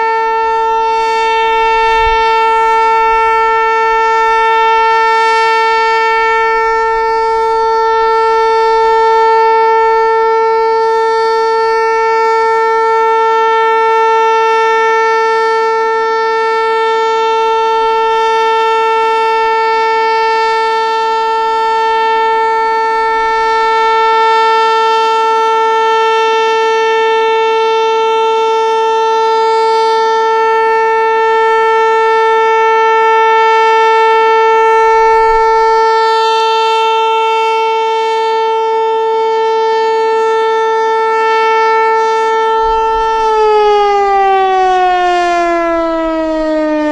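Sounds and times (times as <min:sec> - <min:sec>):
tornado siren steady tone: 0:00.0 - 0:46.9.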